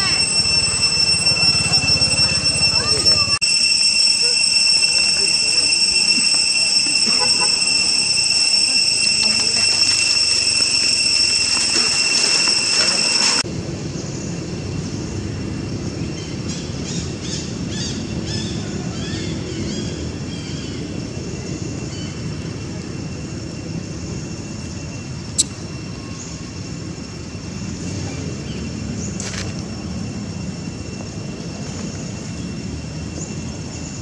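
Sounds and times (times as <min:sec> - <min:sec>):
faint high drone: 0:00.0 - 0:34.0.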